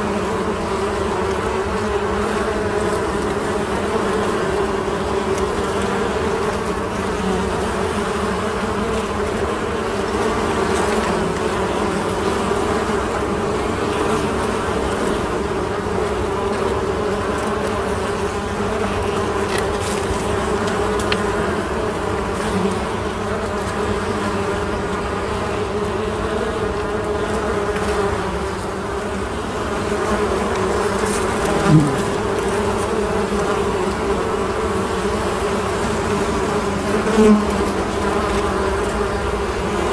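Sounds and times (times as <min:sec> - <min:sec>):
bee buzzing close by: 0:00.0 - 0:39.9
honeybees buzzing: 0:00.0 - 0:39.9.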